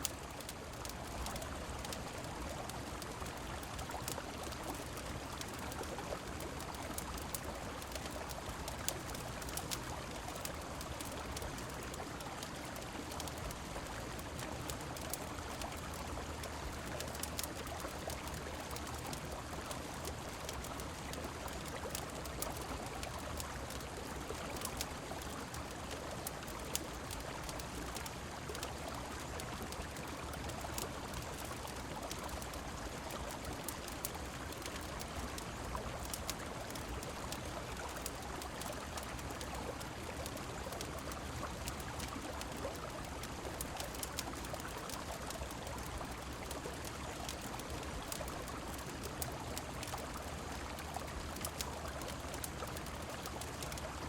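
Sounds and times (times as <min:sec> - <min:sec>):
rain: 0:00.0 - 0:54.0
wood fire crackling: 0:00.0 - 0:54.0.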